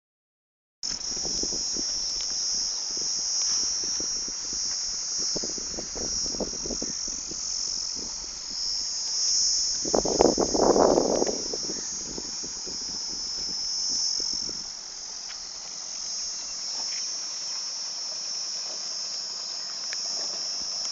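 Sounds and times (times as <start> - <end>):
insect chorus buzzing: 0.8 - 20.9.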